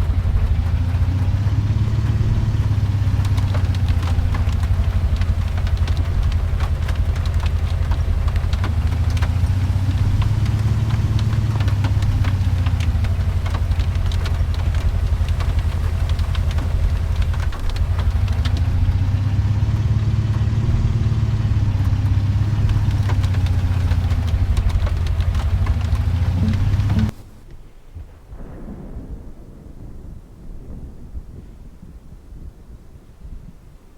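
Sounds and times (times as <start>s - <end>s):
car engine and road noise: 0.0s - 27.6s
rain ticking against car: 0.0s - 31.6s.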